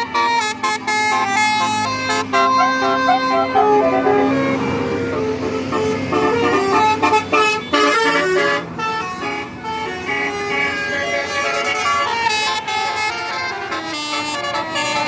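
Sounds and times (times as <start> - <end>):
multi-tone bus air horns: 0.0 - 15.0.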